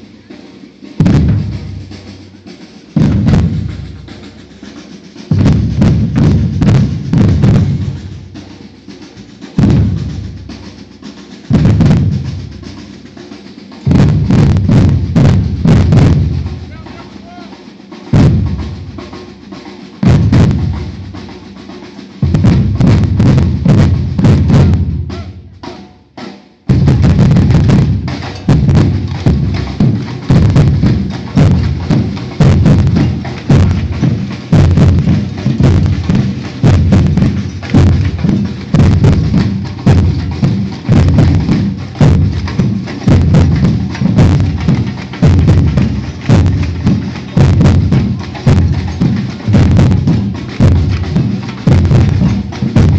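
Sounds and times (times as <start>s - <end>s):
heavy drum hits ringing: 0.0s - 17.5s, 18.1s - 25.9s, 26.7s - 52.9s
percussion ensemble drum groove: 0.0s - 52.9s.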